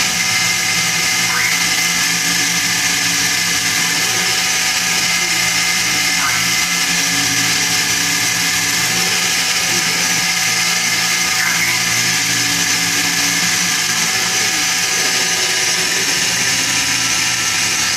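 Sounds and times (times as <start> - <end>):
milling machine whine: 0.0 - 17.9.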